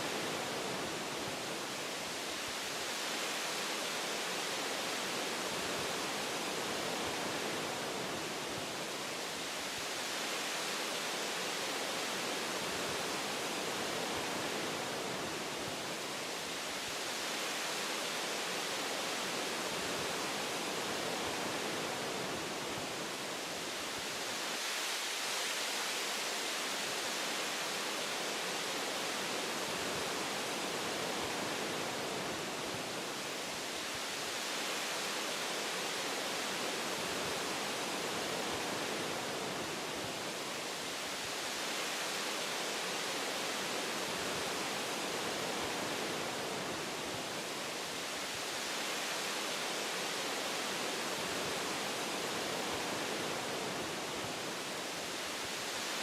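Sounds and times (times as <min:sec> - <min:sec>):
wind rushing through trees: 0:00.0 - 0:56.0.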